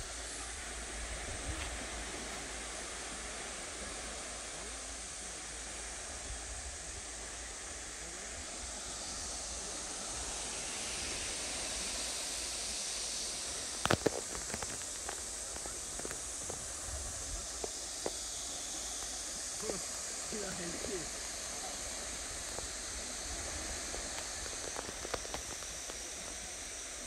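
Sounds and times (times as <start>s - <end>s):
small waves washing on sand: 0.0s - 27.0s
wind hiss: 0.0s - 27.0s.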